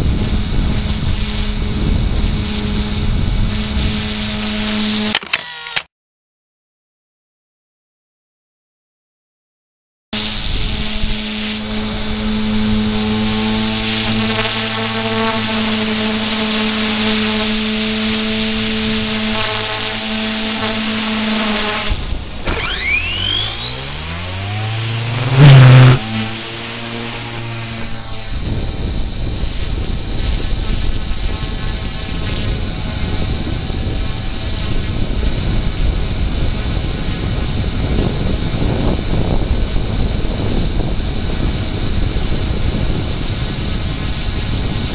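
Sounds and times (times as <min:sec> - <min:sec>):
helicopter motor whine: 0:00.0 - 0:05.9, 0:10.2 - 0:44.9
rotor whir: 0:00.0 - 0:05.9, 0:10.2 - 0:44.9.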